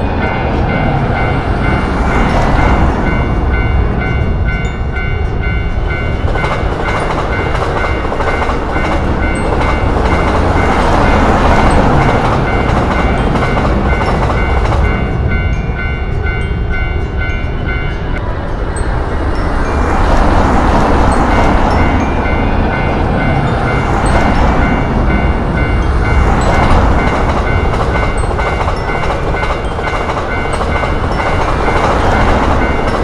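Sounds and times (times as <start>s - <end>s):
railroad crossing bell ringing: 0.0s - 33.0s
train rumble: 0.0s - 33.0s.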